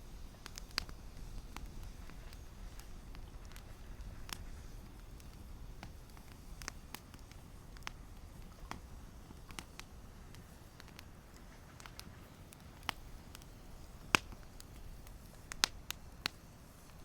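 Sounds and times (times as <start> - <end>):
campfire crackling and popping: 0.0 - 17.0
low rumble of burning fire: 0.0 - 17.0.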